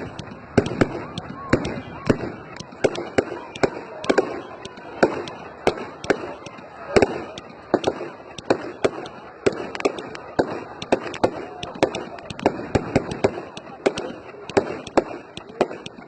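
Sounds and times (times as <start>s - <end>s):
crowd voices: 0.0s - 16.0s
fireworks bangs: 0.0s - 16.0s.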